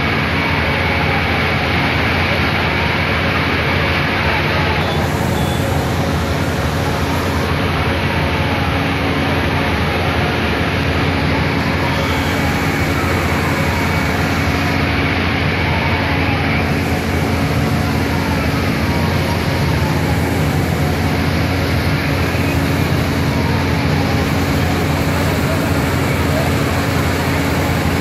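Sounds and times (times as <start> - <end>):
engine rumble: 0.0 - 28.0.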